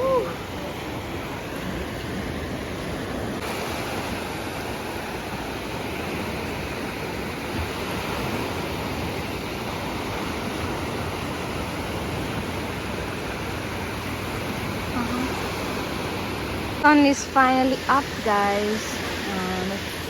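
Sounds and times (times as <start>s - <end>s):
ocean surf washing onto beach: 0.0s - 20.0s.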